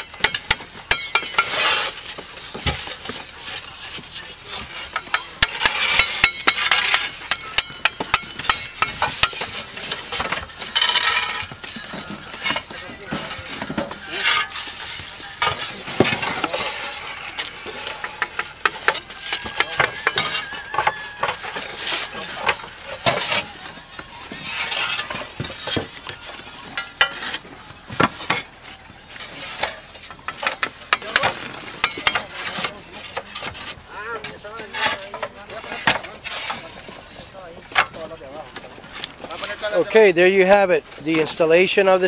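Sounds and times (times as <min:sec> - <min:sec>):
tiles scraping: 0:00.0 - 0:38.1
clay roof tiles clinking: 0:00.0 - 0:42.0.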